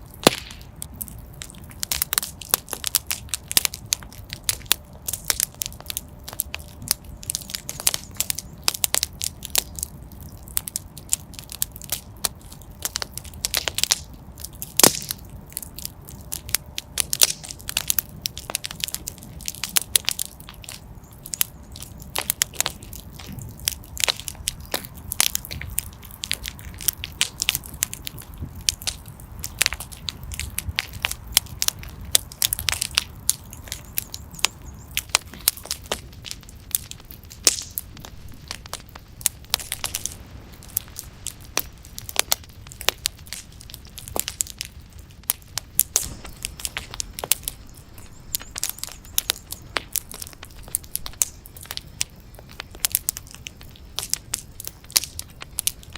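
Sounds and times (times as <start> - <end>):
low rumble of flames: 0.0 - 55.9
wood fire crackling and popping: 0.0 - 55.9.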